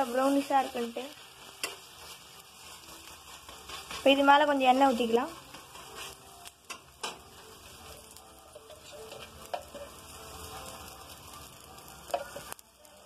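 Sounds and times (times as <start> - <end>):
dosa sizzling in oil: 0.0 - 13.0.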